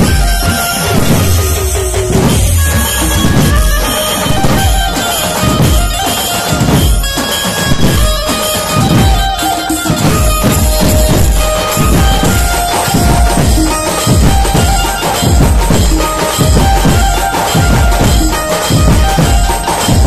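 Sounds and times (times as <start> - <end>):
drums beating fast rhythm: 0.0 - 20.0
held melody line: 0.0 - 20.0.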